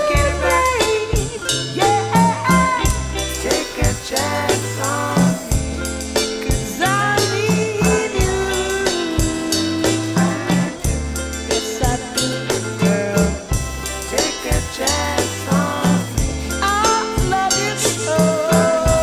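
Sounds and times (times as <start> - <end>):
music with drum beat and bass: 0.0 - 19.0.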